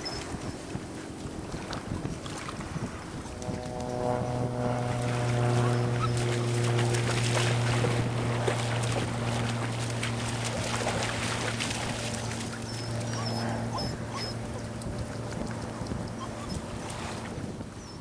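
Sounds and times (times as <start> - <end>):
motorboat engine droning: 0.0 - 18.0
wind noise on microphone: 0.0 - 18.0.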